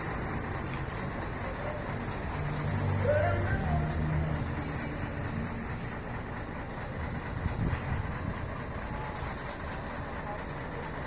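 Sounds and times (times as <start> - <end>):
diesel coach engine rumbling: 0.0 - 11.0.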